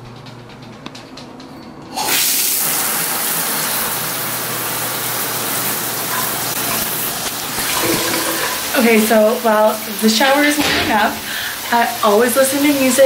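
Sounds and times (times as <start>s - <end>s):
shower water spraying: 2.0s - 13.0s.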